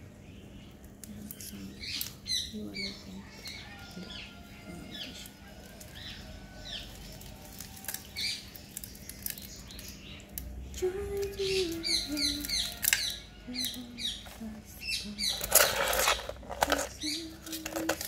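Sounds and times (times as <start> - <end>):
small birds chirping: 0.0 - 18.0
soil and roots crackling: 0.0 - 18.0.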